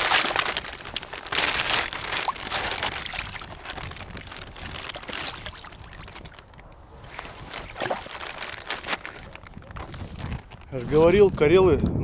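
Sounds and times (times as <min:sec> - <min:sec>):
footsteps splashing through water: 0:00.0 - 0:09.8.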